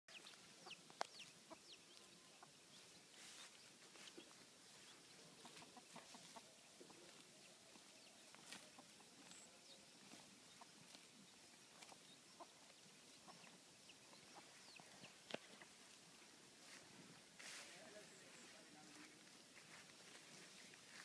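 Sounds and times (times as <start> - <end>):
chickens clucking: 0.1 - 21.0.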